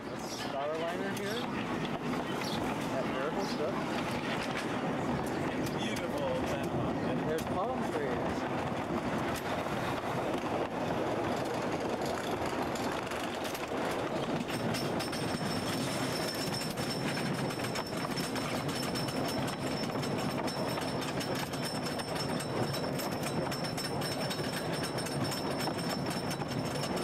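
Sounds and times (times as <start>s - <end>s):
roller coaster lift chain clatter: 0.4s - 27.0s.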